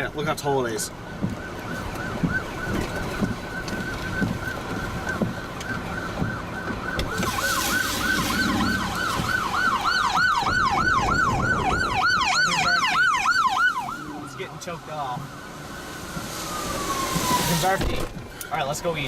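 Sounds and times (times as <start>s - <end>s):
emergency siren yelping: 0.7s - 18.2s.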